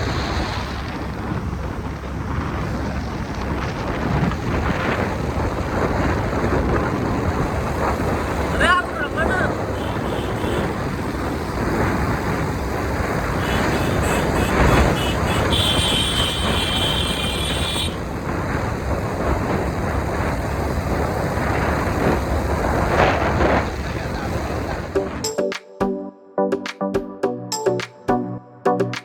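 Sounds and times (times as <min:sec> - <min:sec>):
motorbike engine: 0:00.0 - 0:25.2
wind buffeting microphone: 0:00.0 - 0:25.2
road noise: 0:00.0 - 0:25.3.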